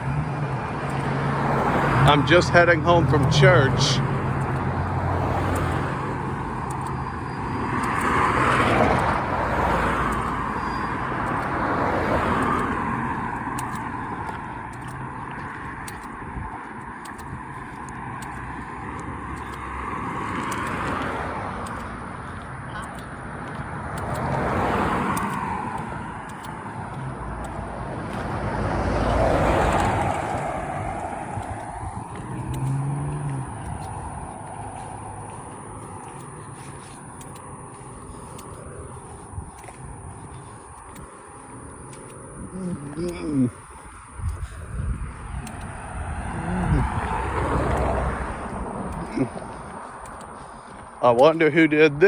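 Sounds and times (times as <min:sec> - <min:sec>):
cars passing: 0:00.0 - 0:52.0.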